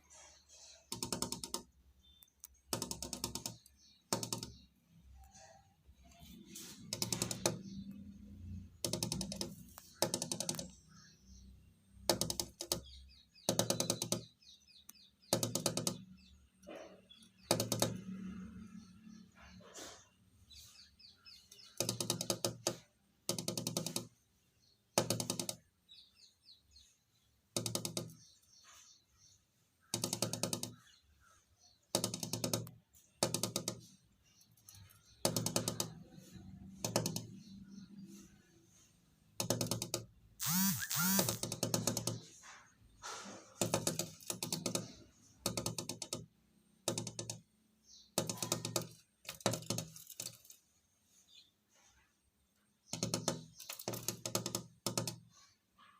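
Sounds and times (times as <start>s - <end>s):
bird pecking at window glass: 0.4s - 26.1s, 26.7s - 28.9s, 29.8s - 38.4s, 39.3s - 51.5s, 52.8s - 55.6s.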